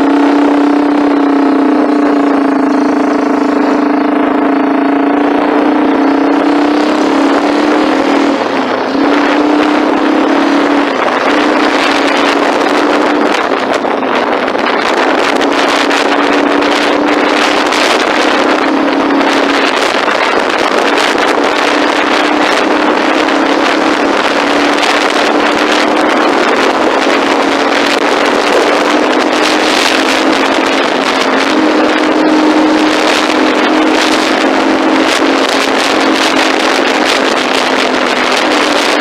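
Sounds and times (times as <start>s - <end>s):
engine droning: 0.0s - 39.0s
wind rush on microphone: 0.0s - 39.0s.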